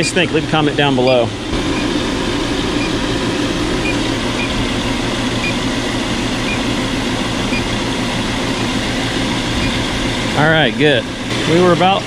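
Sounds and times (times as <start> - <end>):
air conditioning unit humming: 0.0 - 12.0.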